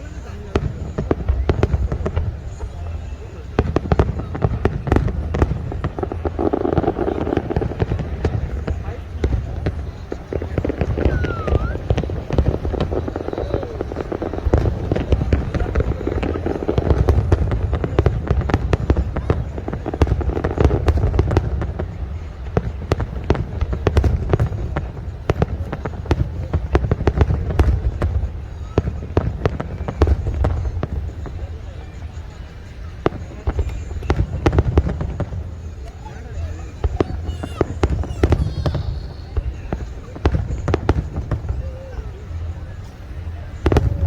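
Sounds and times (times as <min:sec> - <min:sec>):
fireworks bangs and crackles: 0:00.0 - 0:44.0
people's voices: 0:00.0 - 0:44.0.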